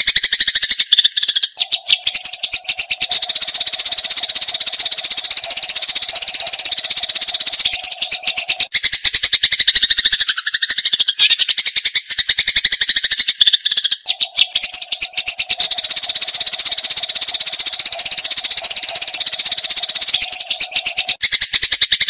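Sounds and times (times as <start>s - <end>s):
sparrows chirping rapidly: 0.0s - 22.0s.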